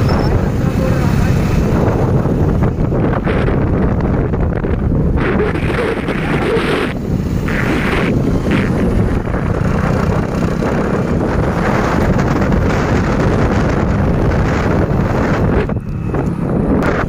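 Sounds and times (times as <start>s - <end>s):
road and engine noise: 0.0s - 17.0s
wind buffeting microphone: 0.0s - 17.0s.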